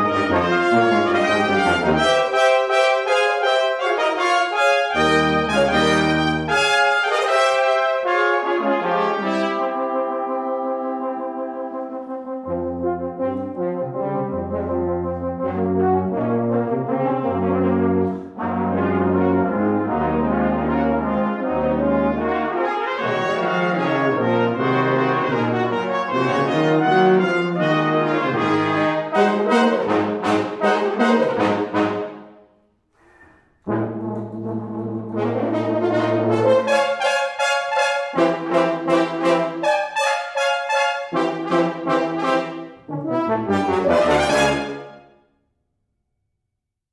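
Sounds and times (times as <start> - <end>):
tuba low notes: 0.0 - 32.4, 33.0 - 45.1
brass quintet playing: 0.0 - 32.5, 33.1 - 45.2.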